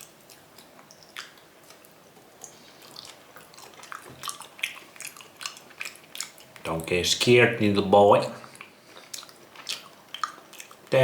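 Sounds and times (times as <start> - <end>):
wet chewing mouth clicks: 0.0 - 6.8, 8.4 - 11.0.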